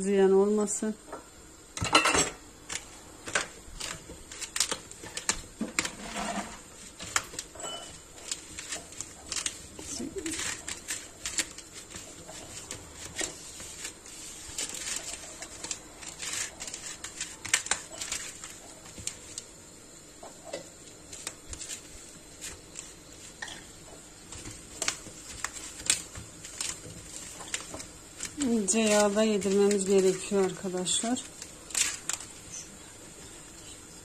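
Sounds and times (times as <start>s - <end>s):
hands rustling pastry strands: 2.6s - 34.0s.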